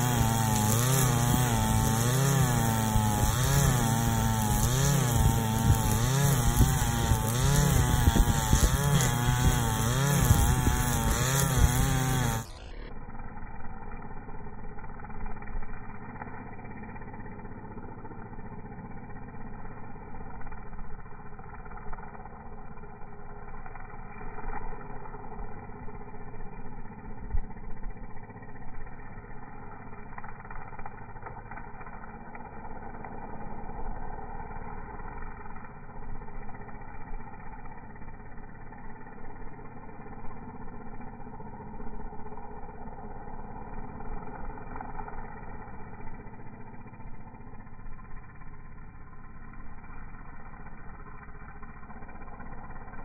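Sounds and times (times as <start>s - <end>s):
string trimmer engine running: 0.0s - 53.0s.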